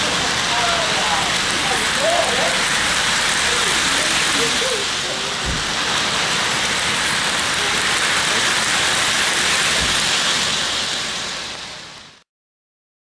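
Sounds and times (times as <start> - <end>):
steady hissing noise: 0.0 - 12.2.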